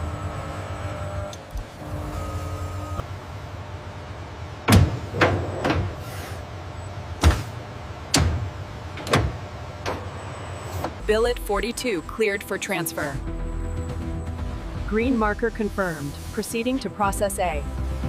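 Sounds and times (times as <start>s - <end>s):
machinery low hum: 0.0s - 18.0s.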